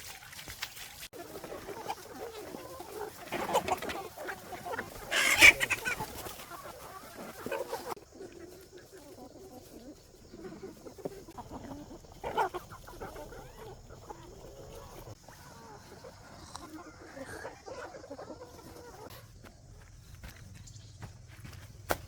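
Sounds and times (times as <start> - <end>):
chickens clucking: 1.1 - 22.0.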